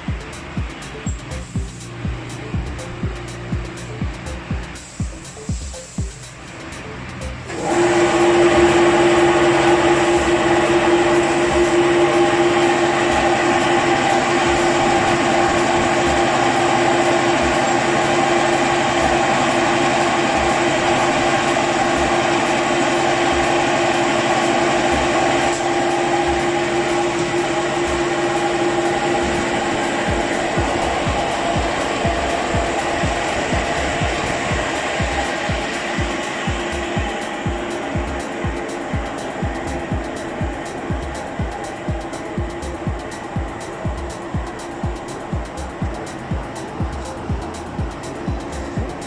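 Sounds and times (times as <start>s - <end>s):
machine droning hum: 0.0s - 49.0s.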